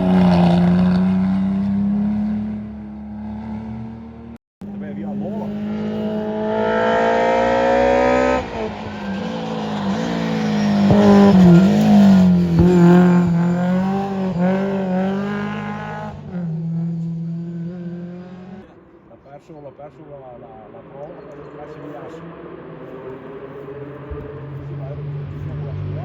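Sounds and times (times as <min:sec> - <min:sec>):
rally car engine revving: 0:00.0 - 0:18.8, 0:19.4 - 0:26.0.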